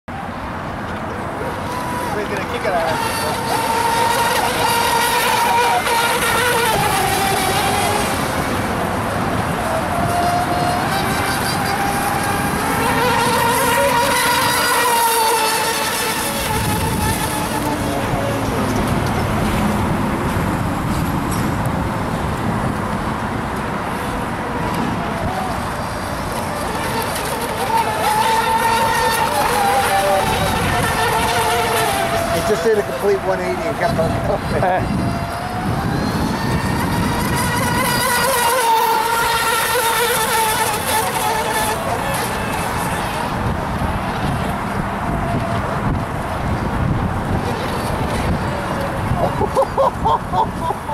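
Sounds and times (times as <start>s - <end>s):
model speedboat motor whine: 0.1s - 50.9s
steady rushing noise: 0.1s - 50.9s.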